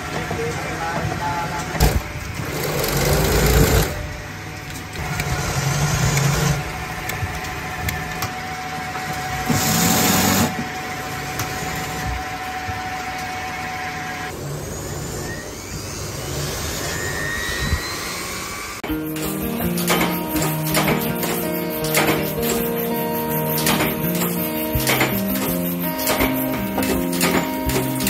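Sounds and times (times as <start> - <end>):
electric machines humming: 0.0 - 28.0
high whine: 3.8 - 28.0.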